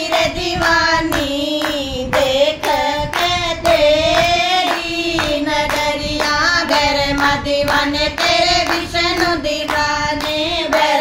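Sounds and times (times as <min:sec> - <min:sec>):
hands clapping a beat: 0:00.0 - 0:11.0
women singing in unison: 0:00.0 - 0:11.0.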